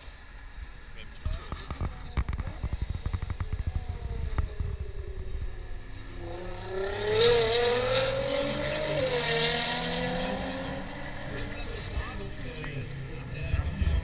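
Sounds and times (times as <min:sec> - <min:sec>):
car engine accelerating: 0:01.3 - 0:14.0.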